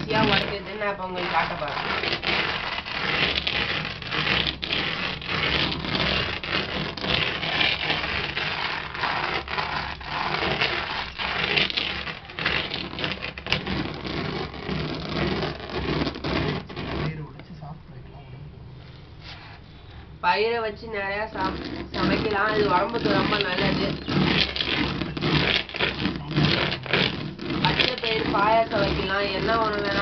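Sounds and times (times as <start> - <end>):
stone roller scraping beans: 0.0 - 17.2, 21.1 - 30.0.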